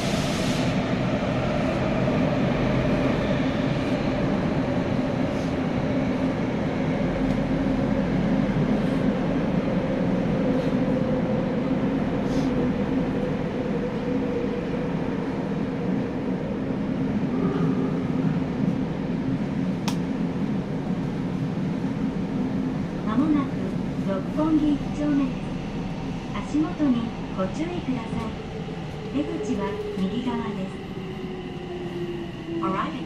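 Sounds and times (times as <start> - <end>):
subway car rumble: 0.0 - 33.0.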